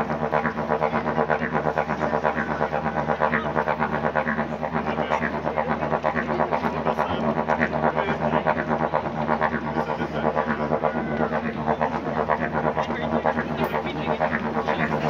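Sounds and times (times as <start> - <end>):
didgeridoo drone: 0.0 - 15.0.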